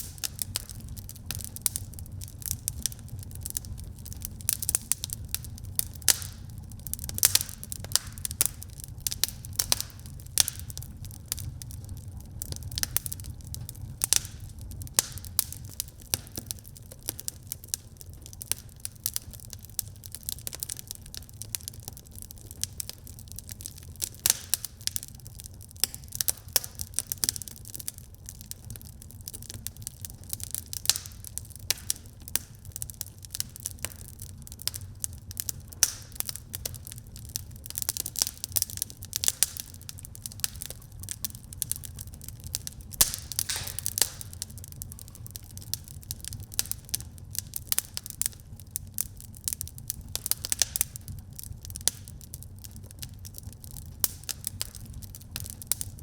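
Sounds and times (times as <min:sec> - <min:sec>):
burning logs crackling and popping: 0:00.0 - 0:56.0
low rumble of flames: 0:00.0 - 0:56.0.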